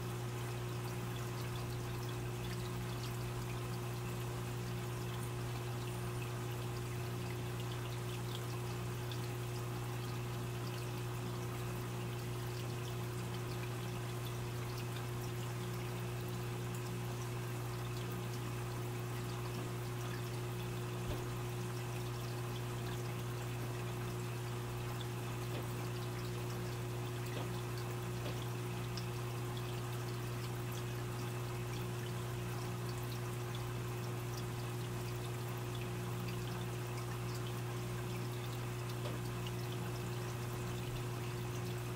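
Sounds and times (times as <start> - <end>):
pump humming: 0.0 - 41.9
water trickling and splashing: 0.0 - 41.9.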